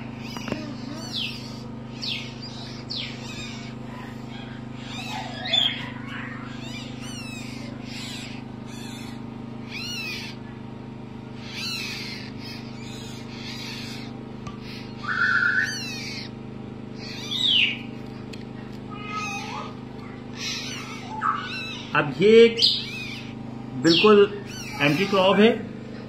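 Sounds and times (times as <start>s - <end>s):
parrot chick chirping: 0.0s - 10.6s, 11.2s - 18.3s, 18.9s - 25.6s
steady low hum: 0.0s - 26.0s.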